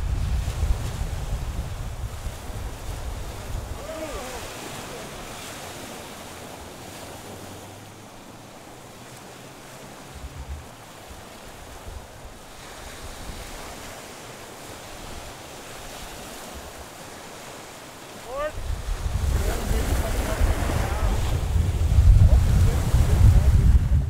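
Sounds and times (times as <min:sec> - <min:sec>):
wind buffeting microphone: 0:00.0 - 0:16.9, 0:18.4 - 0:24.0
small waves breaking on beach: 0:00.0 - 0:24.0.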